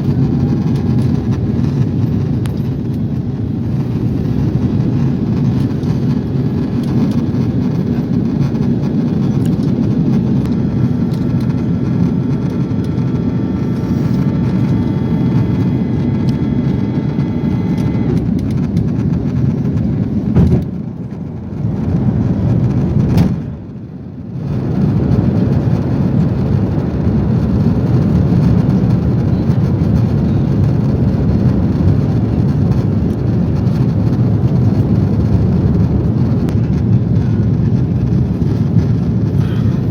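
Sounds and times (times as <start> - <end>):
airplane cabin rumble: 0.0 - 39.9
faint steady whine: 0.0 - 39.9.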